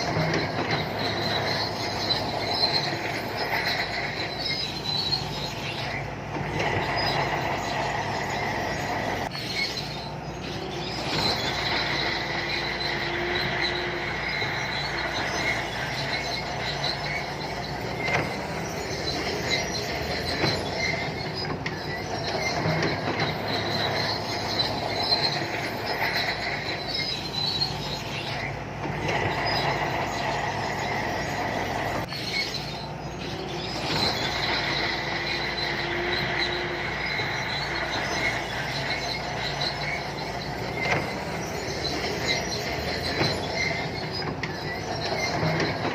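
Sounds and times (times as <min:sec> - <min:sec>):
diesel engine running: 0:00.0 - 0:45.9
steel tracks squealing: 0:00.0 - 0:45.9.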